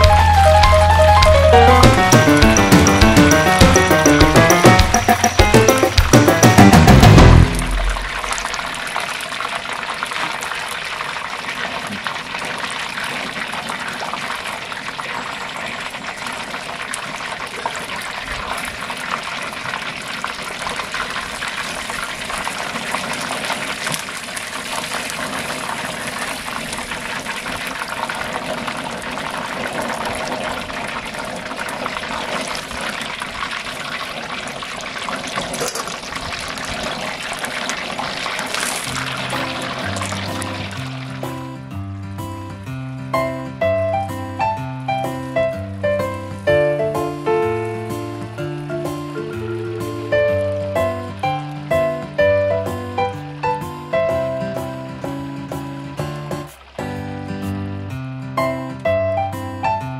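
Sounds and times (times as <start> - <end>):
oil bubbling and sizzling: 0.0 - 43.6, 44.4 - 58.8.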